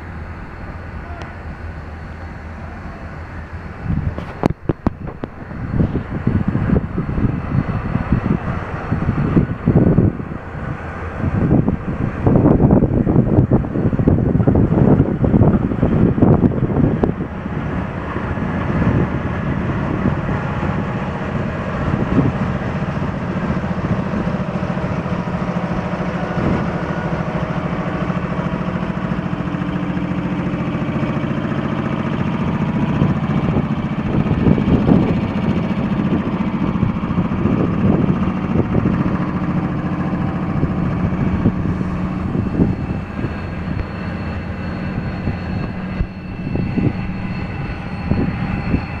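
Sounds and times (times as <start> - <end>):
diesel locomotive engine idling: 0.0 - 49.0.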